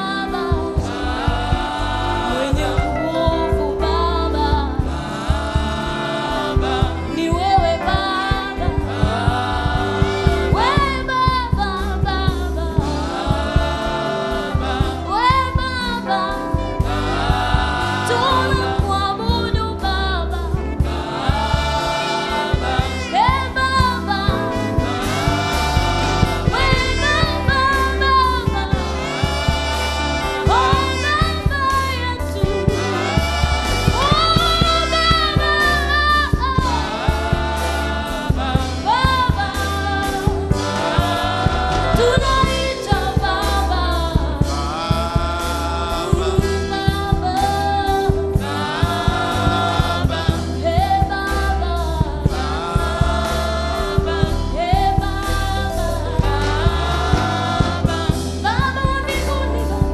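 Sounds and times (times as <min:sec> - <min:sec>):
beat and bass: 0:00.0 - 0:59.9
gospel choir singing: 0:00.0 - 0:59.9
woman singing lead: 0:00.0 - 0:59.9.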